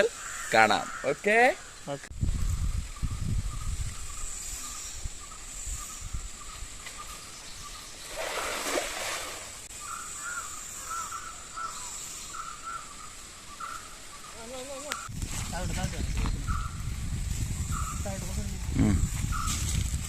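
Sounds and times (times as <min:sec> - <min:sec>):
birds calling: 0:00.0 - 0:02.1, 0:02.8 - 0:16.9, 0:17.5 - 0:19.7
high insect hiss: 0:00.0 - 0:20.0.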